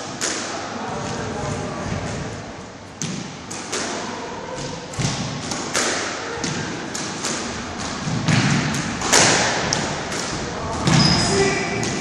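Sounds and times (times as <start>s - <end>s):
squash ball hitting rackets and walls: 0.0s - 12.0s.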